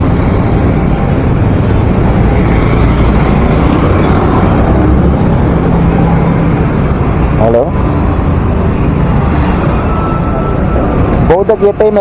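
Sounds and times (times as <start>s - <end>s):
motorcycle engine: 0.0s - 11.3s
road noise: 0.0s - 12.0s.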